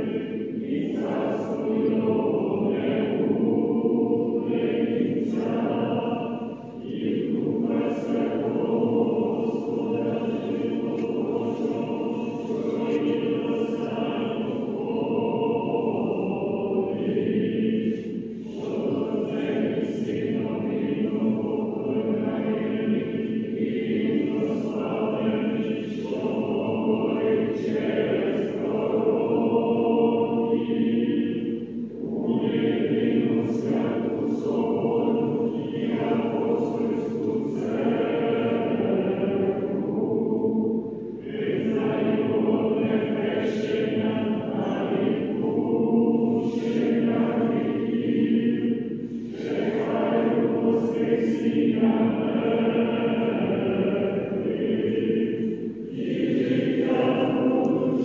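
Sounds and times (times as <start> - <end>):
choir singing unaccompanied chant: 0.0 - 58.0.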